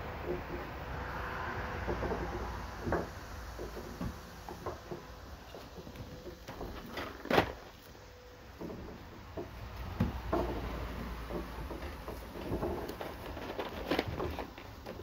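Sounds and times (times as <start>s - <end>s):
puppies scrambling on wooden boards: 1.8s - 7.8s, 8.5s - 15.0s.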